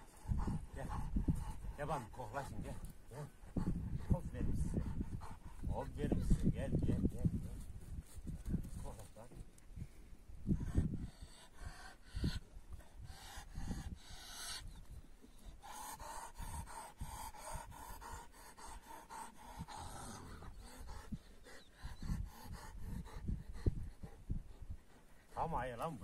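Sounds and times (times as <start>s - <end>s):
dog panting: 0.0s - 7.6s, 10.5s - 14.7s, 15.3s - 26.0s.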